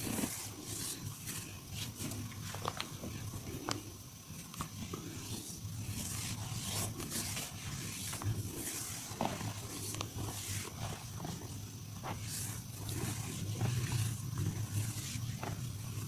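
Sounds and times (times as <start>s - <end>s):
hands rubbing skin: 0.0s - 16.0s
low steady hum: 0.0s - 16.0s.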